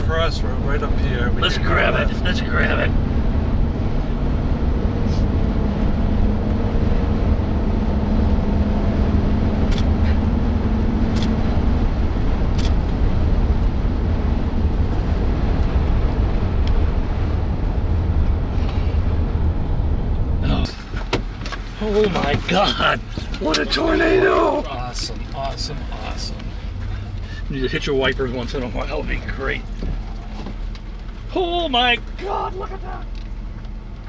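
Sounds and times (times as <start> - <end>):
faint engine hum: 0.0 - 34.0
road and engine rumble in car: 0.0 - 34.0.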